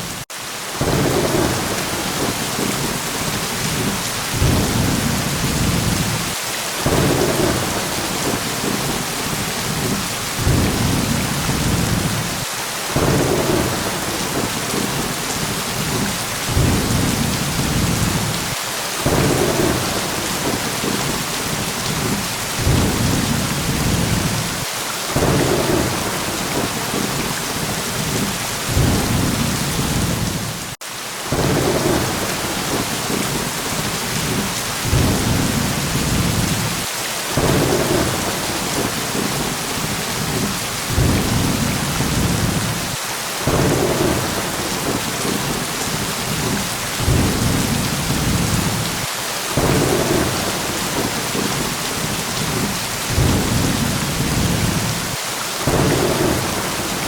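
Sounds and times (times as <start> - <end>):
steady rain: 0.0 - 57.0
low rumbles of thunder: 0.8 - 12.4, 13.0 - 24.6, 25.2 - 30.7, 31.3 - 57.0.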